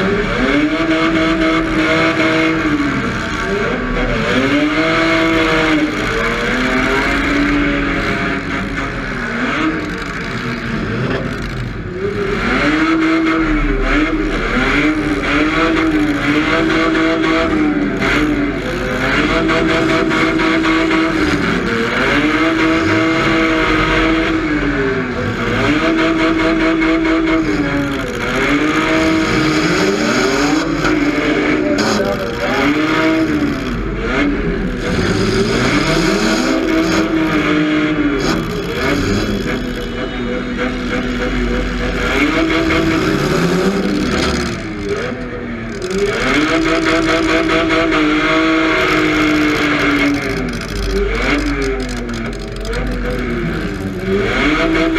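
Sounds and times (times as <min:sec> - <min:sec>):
car engine revving hard: 0:00.0 - 0:54.9
rough car noise: 0:00.0 - 0:54.9.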